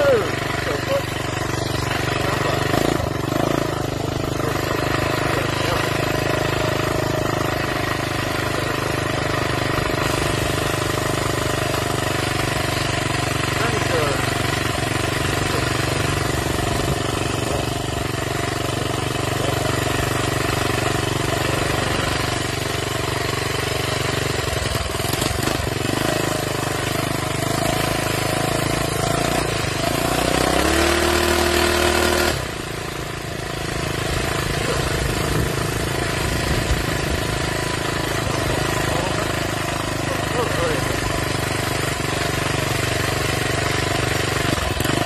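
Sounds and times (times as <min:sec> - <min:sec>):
minibike engine running: 0:00.0 - 0:45.0.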